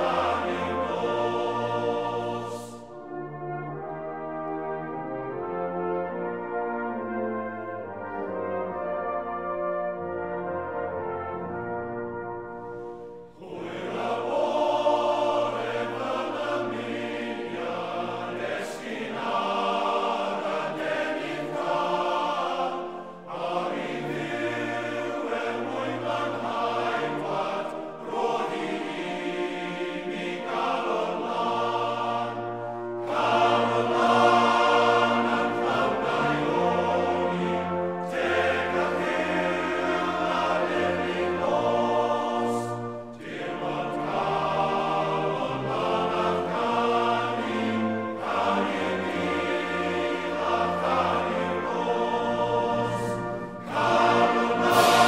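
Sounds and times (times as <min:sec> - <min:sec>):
choir singing: 0:00.0 - 0:55.0
held brass chords: 0:00.0 - 0:55.0.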